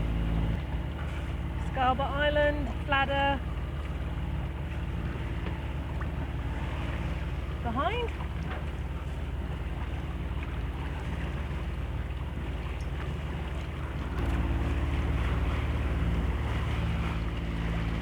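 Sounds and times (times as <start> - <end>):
boat engine humming: 0.0 - 18.0
water rushing along hull: 0.0 - 18.0.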